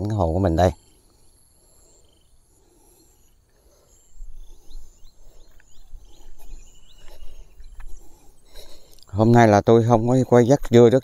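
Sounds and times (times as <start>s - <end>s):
bird chirps: 0.0s - 11.0s.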